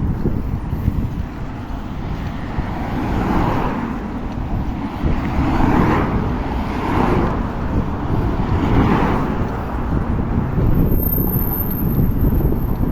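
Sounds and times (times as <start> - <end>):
road traffic passing: 0.0 - 12.9
steady low rumble: 0.0 - 12.9.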